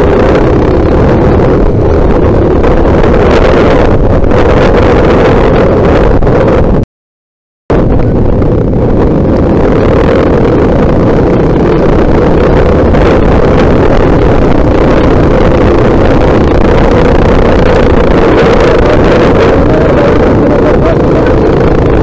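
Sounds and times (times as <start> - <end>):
motorcycle engine running: 0.0 - 6.8, 7.7 - 22.0
wind on microphone: 0.0 - 6.8, 7.7 - 22.0.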